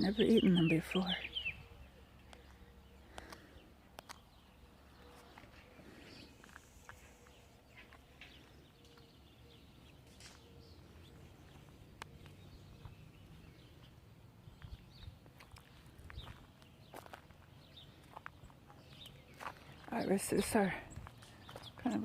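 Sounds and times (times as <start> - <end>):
bird chirps and calls: 0.0 - 22.0.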